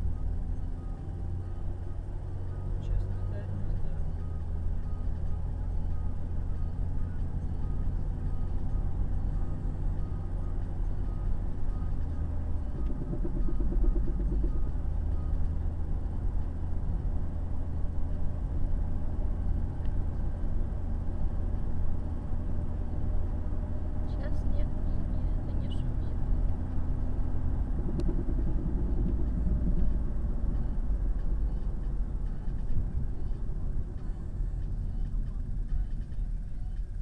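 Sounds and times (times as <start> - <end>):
car road and drivetrain rumble: 0.0 - 37.0.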